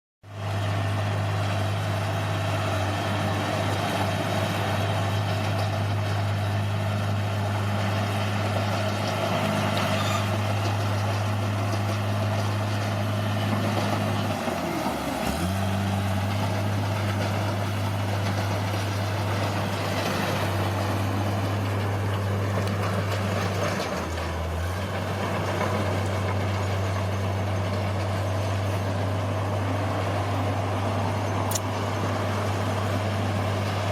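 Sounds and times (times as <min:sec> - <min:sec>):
bulldozer diesel engine running: 0:00.2 - 0:33.9.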